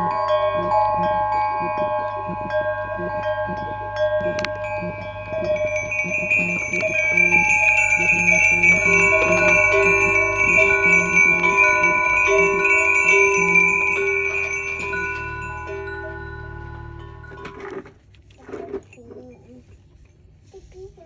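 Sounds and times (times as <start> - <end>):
bells with wooden clappers ringing: 0.0 - 17.9.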